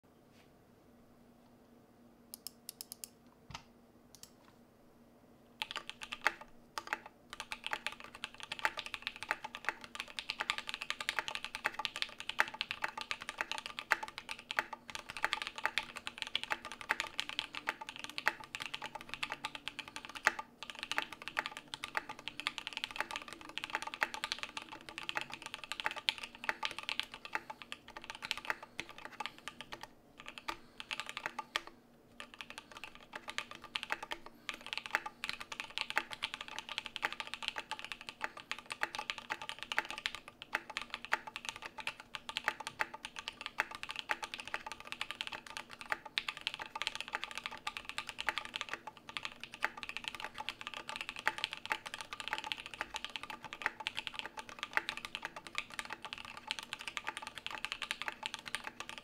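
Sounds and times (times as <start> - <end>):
sharp keyboard clicks: 2.4 - 3.2, 5.6 - 59.0
mechanical keyboard typing: 5.6 - 59.0.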